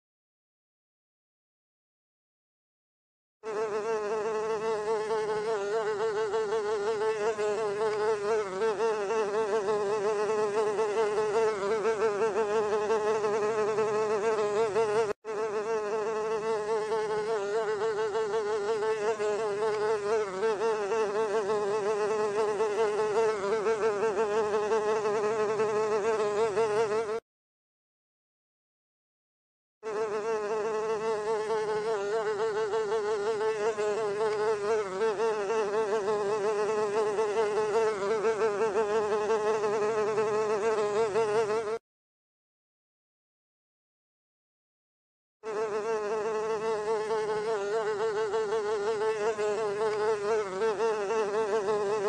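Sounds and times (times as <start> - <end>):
housefly buzzing: 3.4 - 27.3, 29.8 - 41.8, 45.4 - 52.0.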